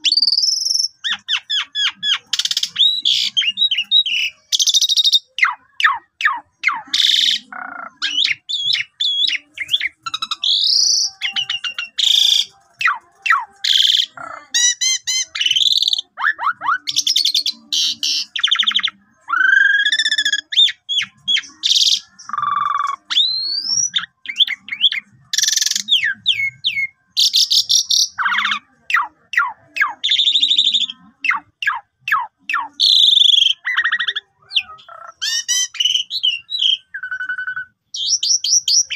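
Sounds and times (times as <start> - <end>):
starling singing varied song: 0.0 - 38.9.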